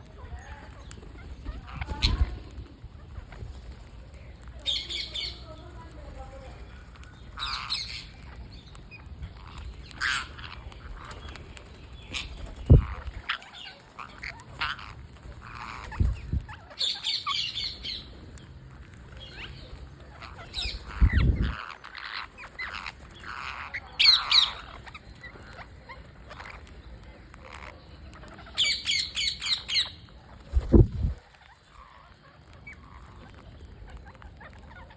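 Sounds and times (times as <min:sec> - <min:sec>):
parrots squawking: 0:00.2 - 0:02.4, 0:04.6 - 0:05.7, 0:06.3 - 0:18.1, 0:18.7 - 0:30.4, 0:31.2 - 0:34.9.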